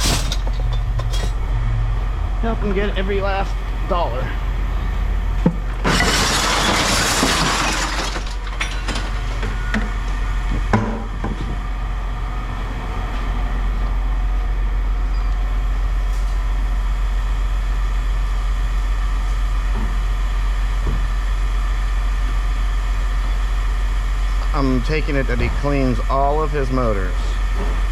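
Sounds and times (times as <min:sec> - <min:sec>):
engine idling: 0:00.0 - 0:05.9, 0:08.3 - 0:27.9.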